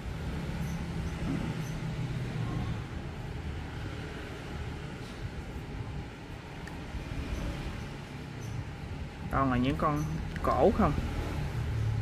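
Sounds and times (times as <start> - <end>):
passing vehicle engine rumble: 0.0 - 12.0.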